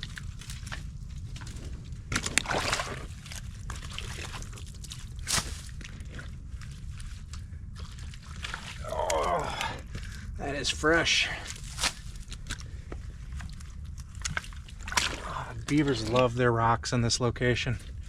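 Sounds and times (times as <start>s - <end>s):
water sloshing and splashing: 0.0s - 16.4s
steady low rumble: 0.0s - 18.0s.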